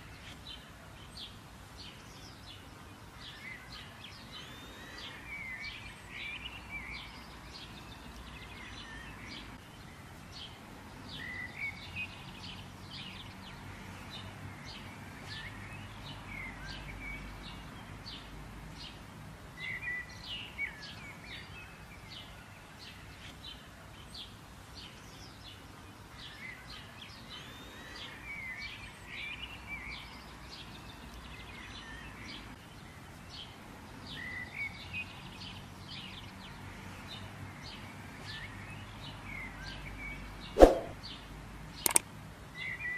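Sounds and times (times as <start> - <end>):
outdoor background hiss: 0.0 - 42.9
small birds chirping: 0.0 - 42.9.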